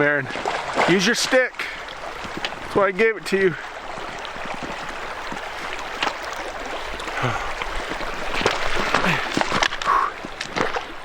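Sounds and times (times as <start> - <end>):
knocks and splashes: 0.0 - 11.0
river water rushing: 0.0 - 11.0.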